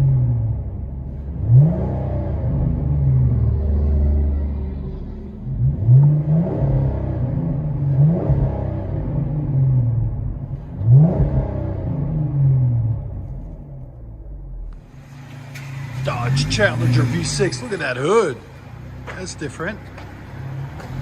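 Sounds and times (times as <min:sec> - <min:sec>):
car engine revving in blips: 0:00.0 - 0:21.0.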